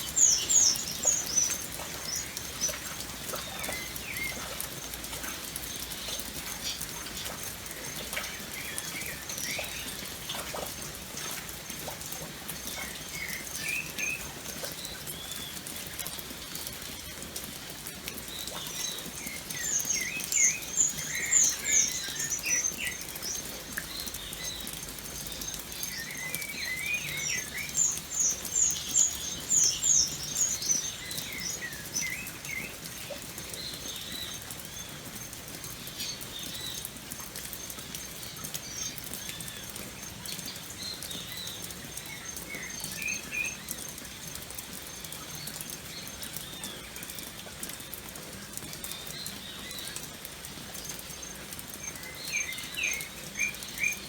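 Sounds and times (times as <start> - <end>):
birds chirping: 0.0 - 15.6, 18.4 - 47.4, 50.7 - 54.0
rain pattering: 0.0 - 54.0.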